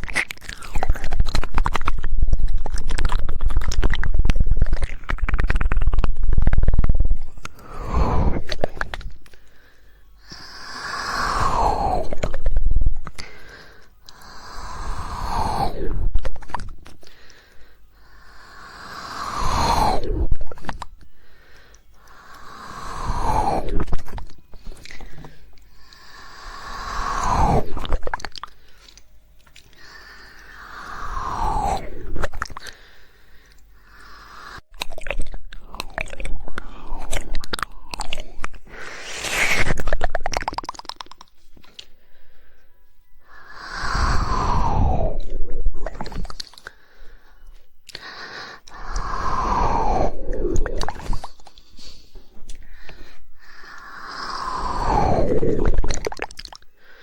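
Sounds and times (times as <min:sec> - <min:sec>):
wet tongue clicks: 0:00.0 - 0:42.1, 0:43.2 - 0:57.0.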